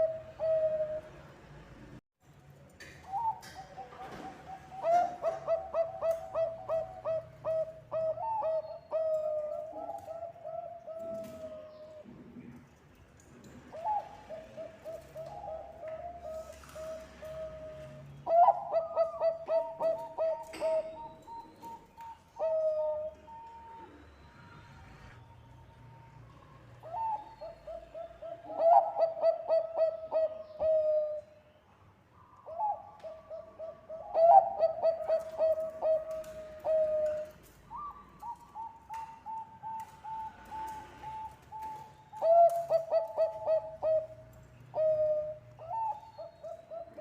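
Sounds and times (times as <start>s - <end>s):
dove cooing song: 0.0s - 1.3s, 3.0s - 12.1s, 13.6s - 25.2s, 26.0s - 31.4s, 32.2s - 47.0s.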